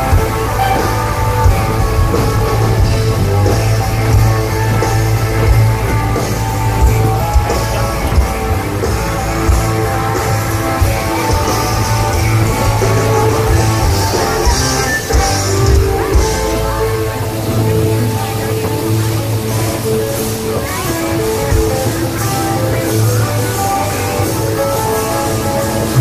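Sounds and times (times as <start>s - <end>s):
live rock music: 0.0s - 26.0s.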